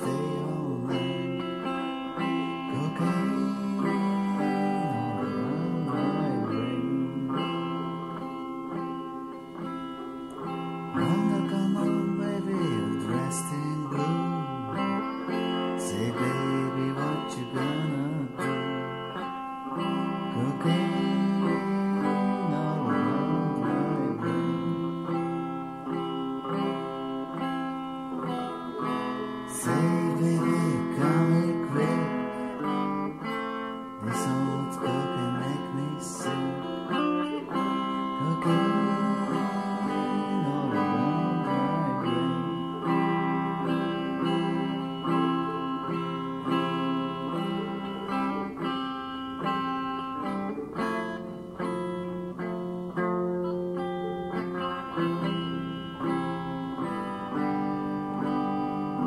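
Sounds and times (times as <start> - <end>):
blues guitar: 0.0 - 59.0.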